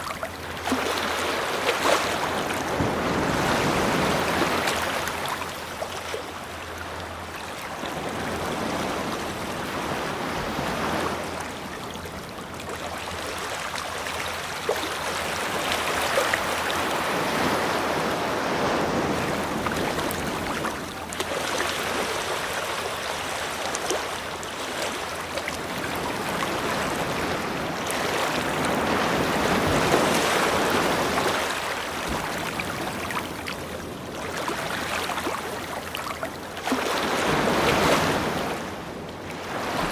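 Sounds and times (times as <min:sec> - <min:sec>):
ocean surf washing onto beach: 0:00.0 - 0:05.8, 0:07.2 - 0:11.8, 0:13.3 - 0:35.6, 0:36.6 - 0:39.9.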